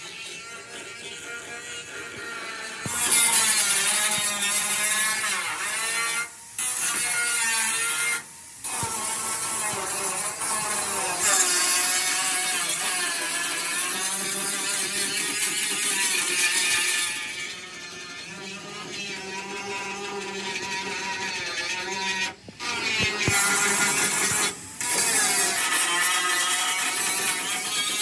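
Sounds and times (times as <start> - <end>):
power tool grinding metal: 0.0 - 28.0.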